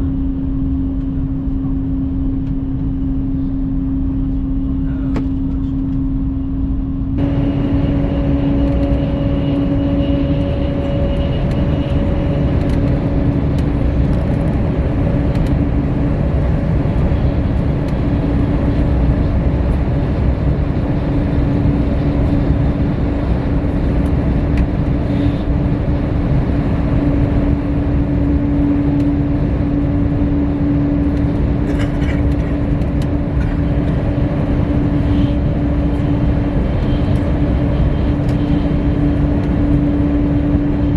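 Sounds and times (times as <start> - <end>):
steady hum: 0.0 - 40.9
train cabin rumble: 0.0 - 40.9.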